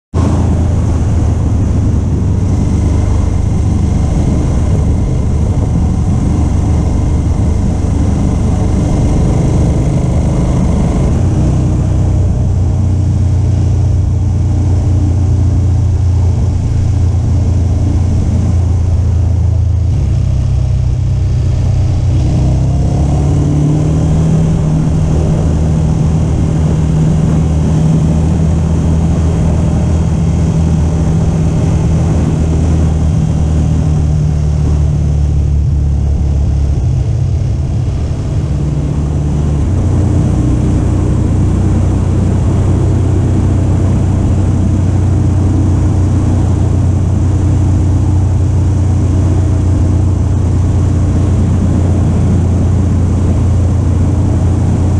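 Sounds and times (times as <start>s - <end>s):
motorcycle engine running: 0.1s - 54.9s.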